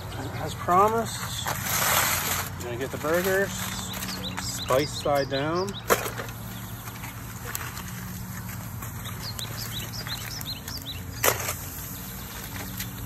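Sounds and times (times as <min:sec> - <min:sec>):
small birds chirping: 0:00.0 - 0:01.6, 0:02.6 - 0:13.0.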